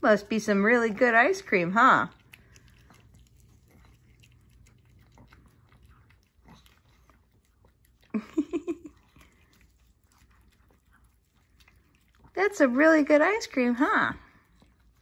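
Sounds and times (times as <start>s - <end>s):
puppy licking wet clicks: 0.2s - 15.0s.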